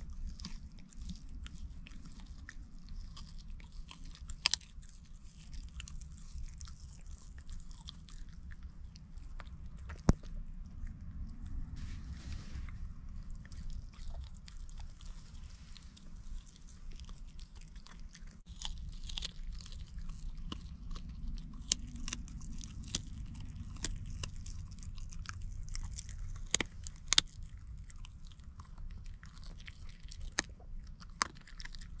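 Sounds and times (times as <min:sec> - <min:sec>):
chewing and crunching food: 0:00.0 - 0:32.0
low steady rumble: 0:00.0 - 0:32.0.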